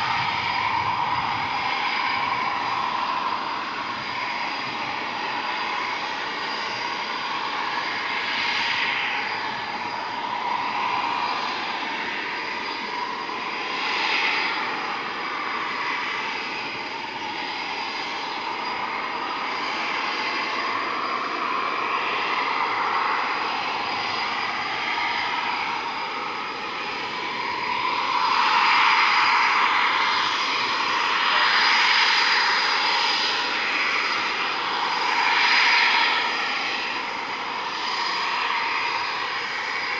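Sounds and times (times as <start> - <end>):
high-pitched engine whine: 0.0 - 39.9
jet engines rushing: 0.0 - 39.9.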